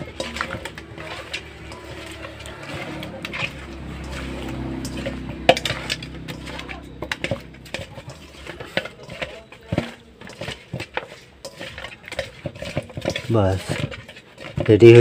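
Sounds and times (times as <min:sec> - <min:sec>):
fish knocking against metal bowl: 0:00.0 - 0:15.0.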